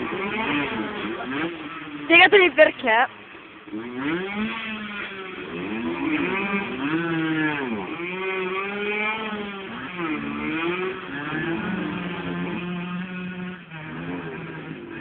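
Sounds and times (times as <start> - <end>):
motorcycle engines revving: 0.0 - 15.0
steady engine note: 0.0 - 15.0.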